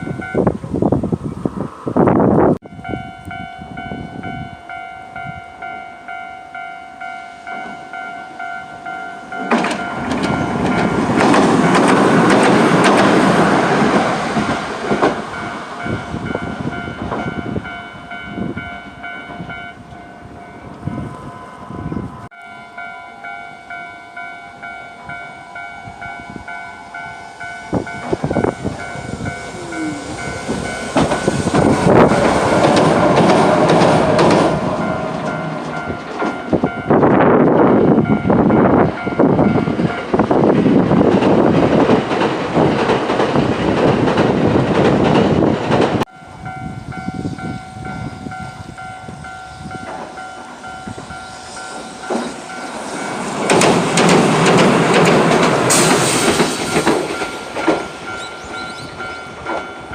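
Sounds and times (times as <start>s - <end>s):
train wheels rumbling: 0.0s - 59.9s
level-crossing alarm clanging: 2.7s - 40.5s, 46.0s - 59.9s.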